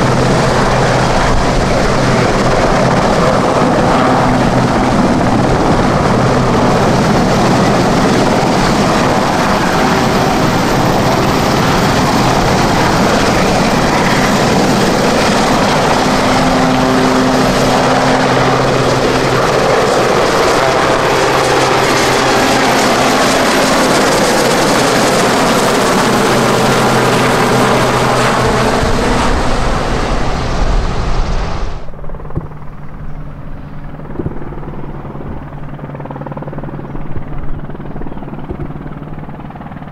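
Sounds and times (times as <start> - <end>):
helicopter rotor and engines: 0.0 - 39.9.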